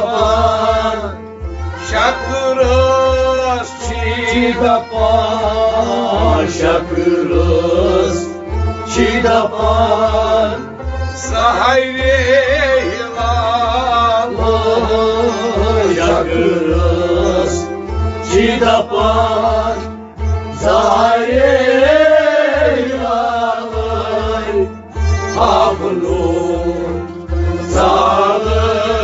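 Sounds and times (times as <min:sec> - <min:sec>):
man singing: 0:00.0 - 0:20.0, 0:20.6 - 0:29.0
harmonium: 0:00.0 - 0:29.0
stringed instruments: 0:00.0 - 0:29.0.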